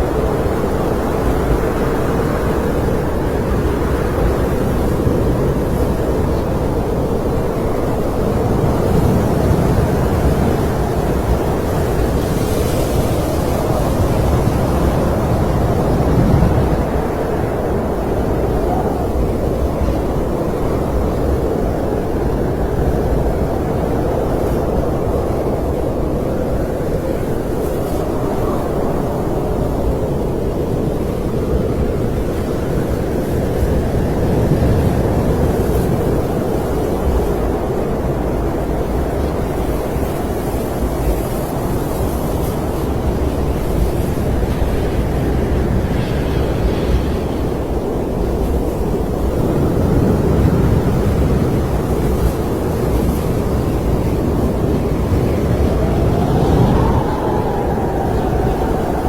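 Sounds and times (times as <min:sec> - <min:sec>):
faint wind whistling: 0:00.0 - 0:59.0
snowstorm wind blowing hard: 0:00.0 - 0:59.0.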